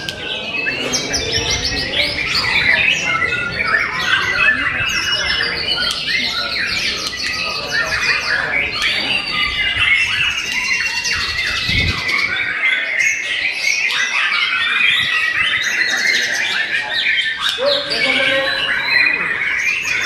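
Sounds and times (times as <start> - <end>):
birds singing in trills: 0.0 - 20.0.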